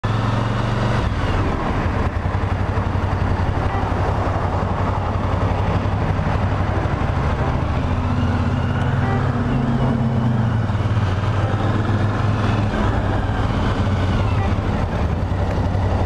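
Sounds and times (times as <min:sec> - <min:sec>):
motorcycle engine hum: 0:00.0 - 0:16.0.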